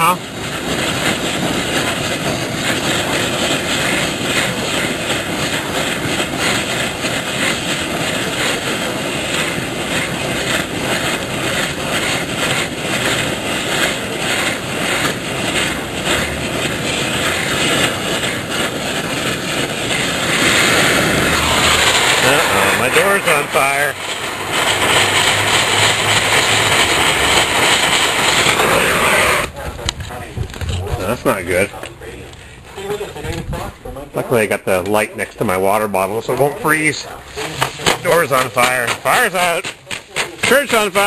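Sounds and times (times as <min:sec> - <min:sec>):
torch flame rushing: 0:00.0 - 0:41.0.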